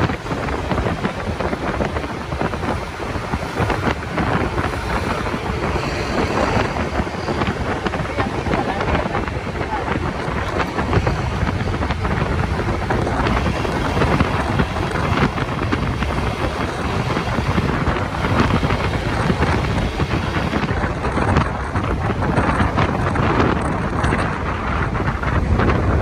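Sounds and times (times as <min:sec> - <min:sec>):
street traffic: 0:00.0 - 0:26.0
wind buffeting microphone: 0:00.0 - 0:26.0.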